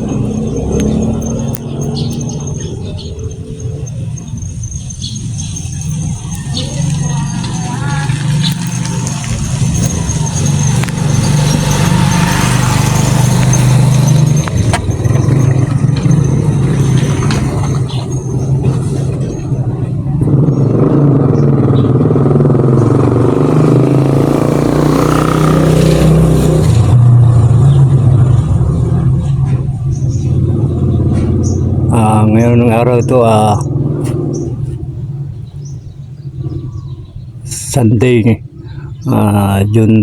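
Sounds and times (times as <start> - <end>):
passing vehicle engine: 0.0 - 37.8
vehicle engines humming: 0.0 - 40.0.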